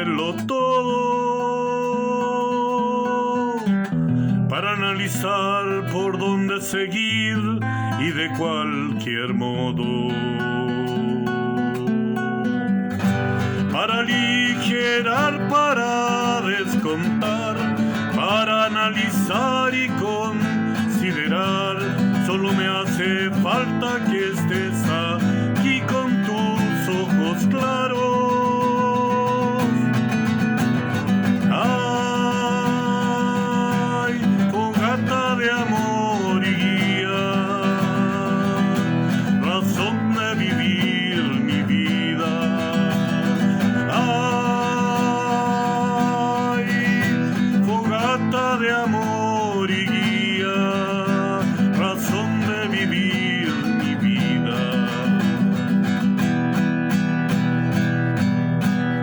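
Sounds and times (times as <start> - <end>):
acoustic guitar accompaniment: 0.0 - 59.0.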